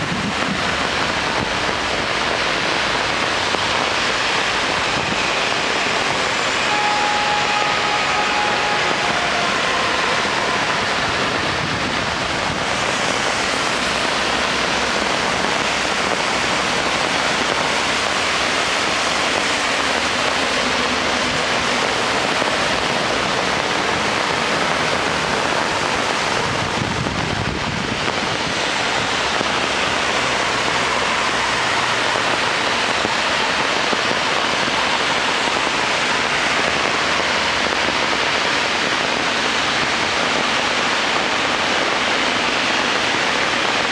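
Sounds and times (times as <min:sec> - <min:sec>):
car tyres through water: 0:00.0 - 0:43.9
heavy rain hiss: 0:00.0 - 0:43.9.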